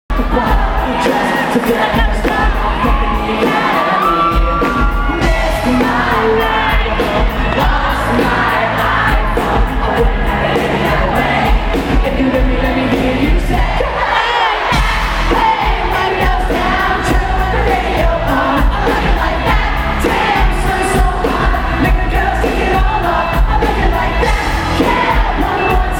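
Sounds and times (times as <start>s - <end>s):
crowd cheering and shouting: 0.1s - 25.9s
lead vocal singing: 0.1s - 25.9s
live pop band playing: 0.1s - 25.9s.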